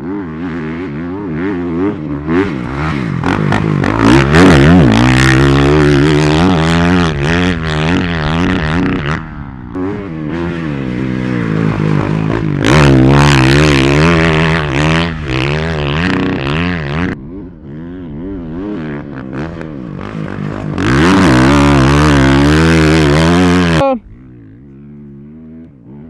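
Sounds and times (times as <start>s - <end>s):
motocross bike engine revving: 0.0s - 26.0s.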